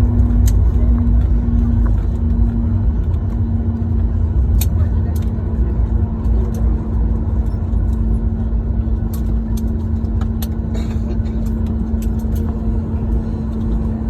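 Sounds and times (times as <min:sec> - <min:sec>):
airliner cabin rumble: 0:00.0 - 0:14.0
constant hum: 0:00.0 - 0:14.0
light clicks and rattles: 0:00.1 - 0:14.0.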